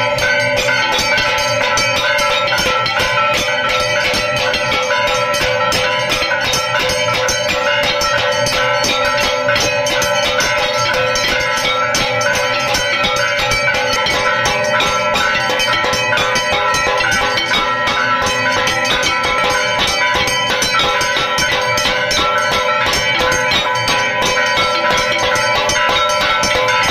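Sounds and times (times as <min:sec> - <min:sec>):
temple bells clanging: 0:00.0 - 0:26.9.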